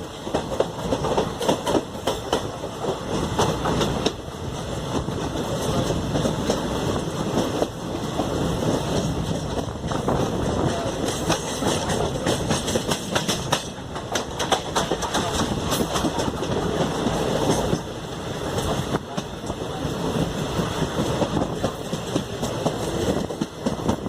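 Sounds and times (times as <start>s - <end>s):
rail clicks and clatter: 0.0s - 24.0s
train wheels rumbling: 0.0s - 24.0s.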